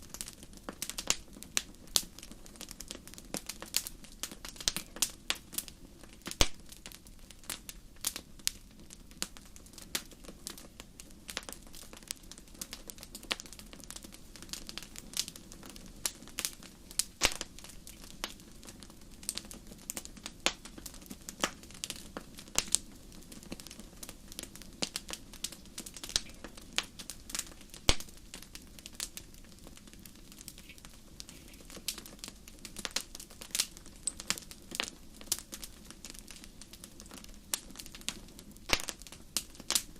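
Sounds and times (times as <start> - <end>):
fire pops and snaps: 0.0 - 39.9
low rumble of flames: 0.0 - 39.9.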